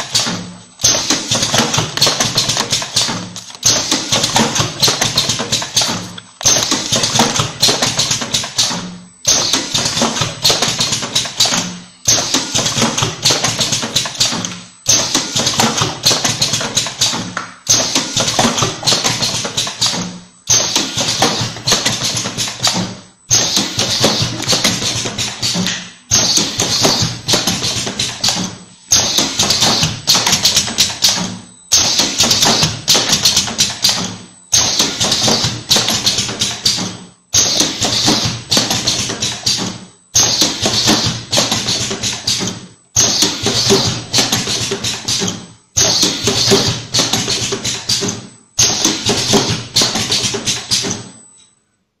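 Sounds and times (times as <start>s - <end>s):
machine tapping and clatter: 0.0s - 51.6s.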